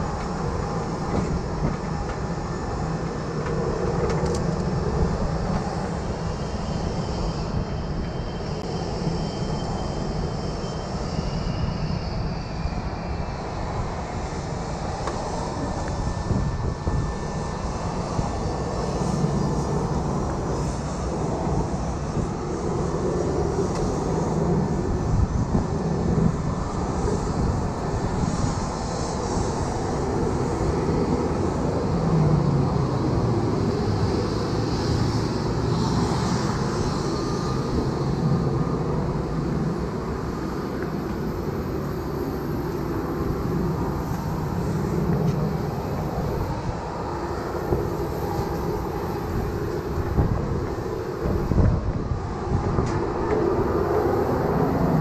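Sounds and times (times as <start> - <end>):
faint high whine: 0.0 - 55.0.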